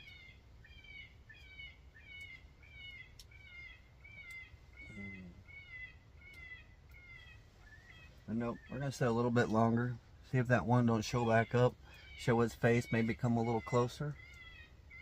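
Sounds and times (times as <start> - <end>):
high mewing animal call: 0.0 - 9.2, 10.8 - 15.0.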